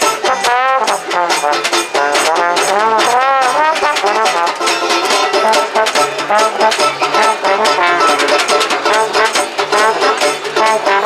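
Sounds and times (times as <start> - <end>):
snare drum played with sticks: 0.0 - 11.0
strummed banjo: 0.0 - 11.0
trombone with pitch bends: 0.0 - 11.0
upright bass: 0.0 - 11.0.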